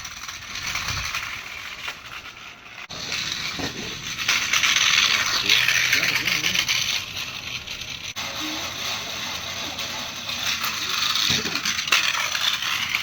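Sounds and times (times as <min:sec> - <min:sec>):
plastic gears ratcheting: 0:00.0 - 0:13.0.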